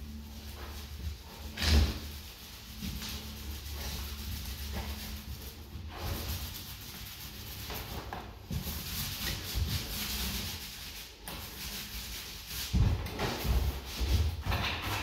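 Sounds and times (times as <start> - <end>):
paint roller rubbing on wall: 0.0 - 15.0.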